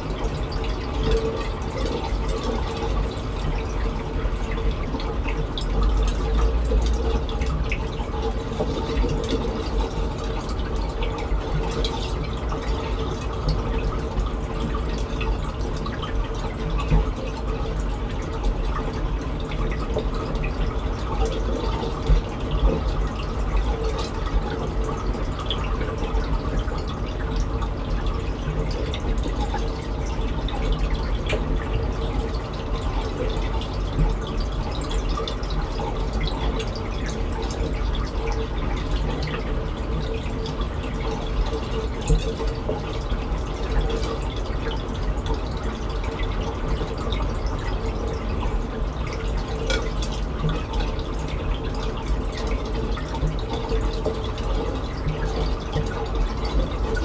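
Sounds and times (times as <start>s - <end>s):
aquarium water trickling: 0.0s - 57.0s
bubbling ticks: 0.0s - 57.0s.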